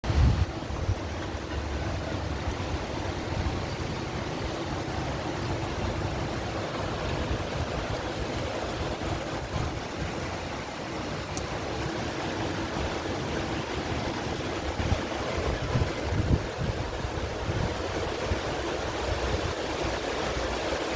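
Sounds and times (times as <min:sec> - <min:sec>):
heavy rain falling: 0:00.0 - 0:20.9
wind: 0:00.0 - 0:20.9.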